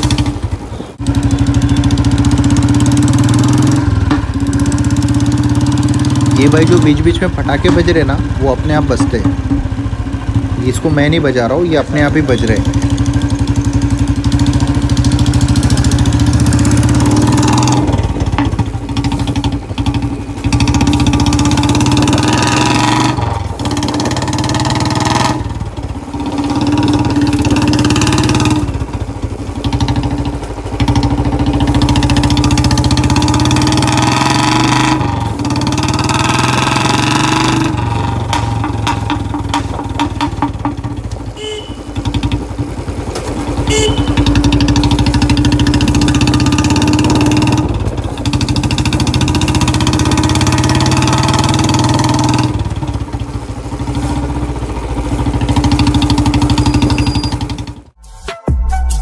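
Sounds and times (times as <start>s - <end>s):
motorcycle engine revving: 0.0s - 58.0s
exhaust pops: 6.2s - 58.0s.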